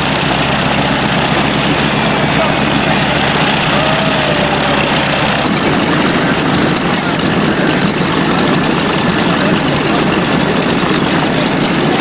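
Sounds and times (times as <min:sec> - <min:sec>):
radial engine idling: 0:00.0 - 0:12.0.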